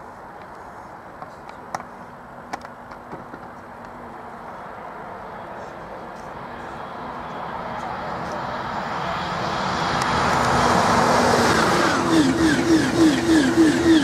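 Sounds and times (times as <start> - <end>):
distant airliner engines: 0.0 - 14.0.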